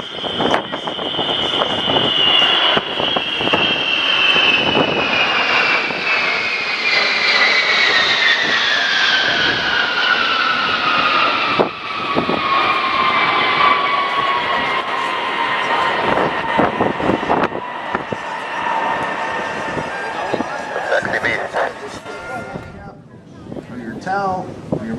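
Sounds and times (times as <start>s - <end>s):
jet bomber roaring past: 0.0s - 23.6s
jet engine whine falling in pitch: 0.0s - 23.6s.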